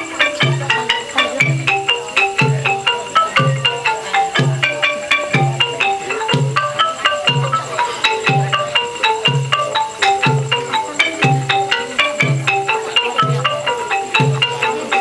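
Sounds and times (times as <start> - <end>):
low beat: 0.0 - 15.0
mallet percussion melody: 0.0 - 15.0.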